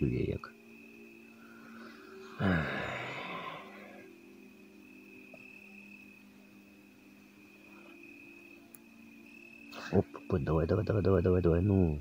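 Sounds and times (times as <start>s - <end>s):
high insect trill: 0.0s - 12.0s
low droning night calls: 0.0s - 12.0s.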